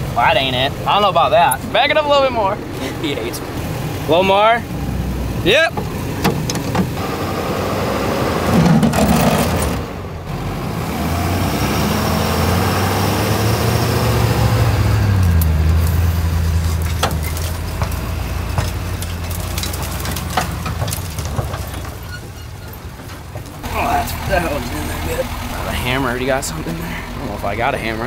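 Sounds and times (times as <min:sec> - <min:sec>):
pickup truck engine running: 0:00.0 - 0:28.0.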